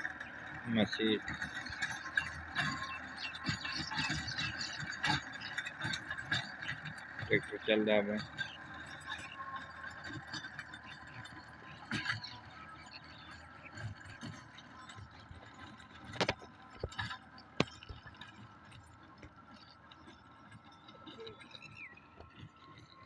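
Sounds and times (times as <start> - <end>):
faint tractor engine running: 0.0 - 23.0.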